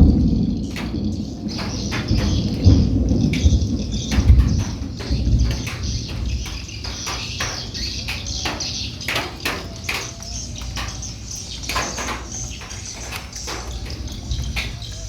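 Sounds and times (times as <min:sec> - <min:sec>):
rainstorm hiss and rumble: 0:00.0 - 0:15.0.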